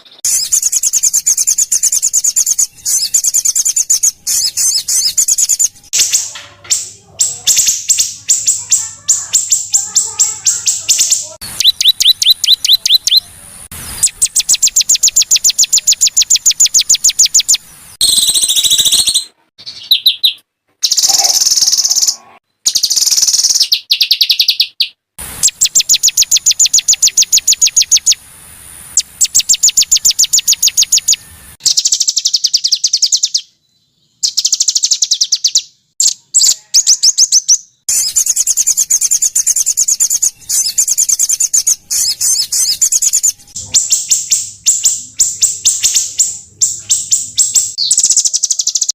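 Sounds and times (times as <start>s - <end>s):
songbirds singing: 0.0s - 48.9s.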